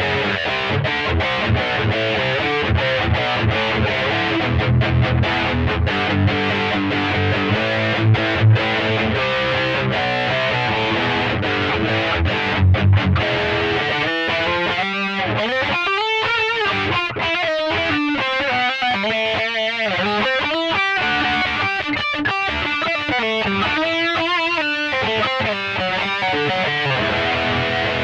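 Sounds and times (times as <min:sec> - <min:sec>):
distorted electric guitar riffs: 0:00.0 - 0:28.0.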